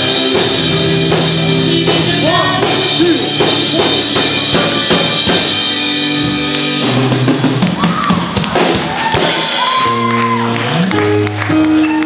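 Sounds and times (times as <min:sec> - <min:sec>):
drum kit beating: 0:00.0 - 0:11.9
rock band playing: 0:00.0 - 0:12.0.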